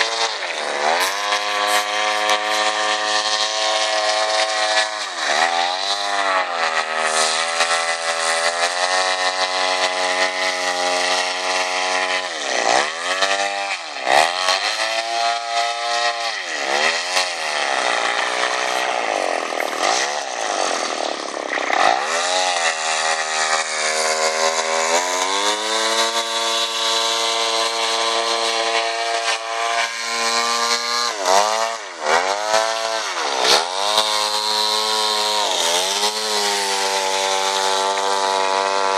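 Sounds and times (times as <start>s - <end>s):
two-stroke engine driving propeller: 0.0s - 38.9s.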